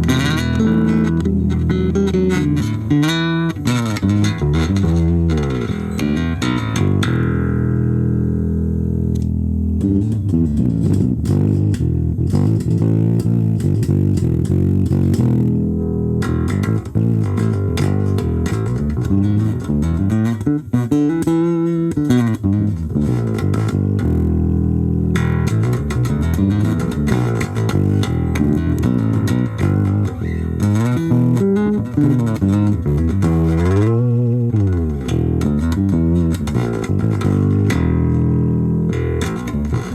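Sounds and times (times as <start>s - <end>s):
electric bass plucked notes: 0.0s - 39.9s.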